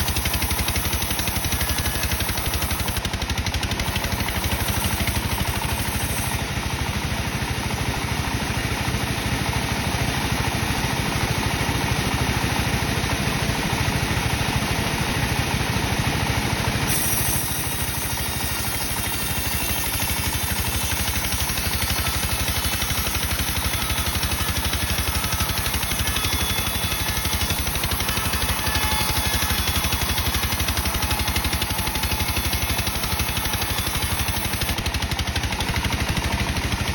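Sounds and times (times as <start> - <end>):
sawmill machinery slicing timber: 0.0 - 36.9.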